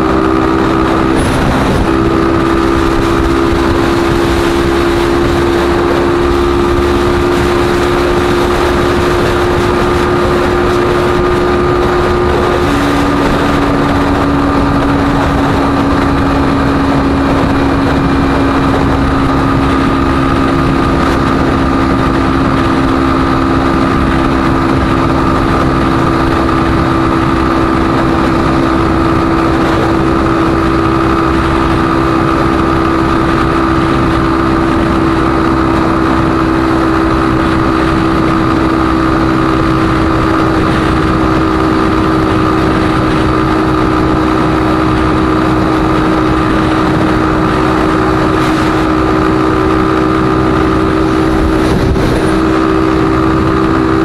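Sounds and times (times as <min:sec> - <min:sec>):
motorcycle engine cruising: 0:00.0 - 0:54.0
road noise: 0:00.0 - 0:54.0
wind rush: 0:00.0 - 0:54.0.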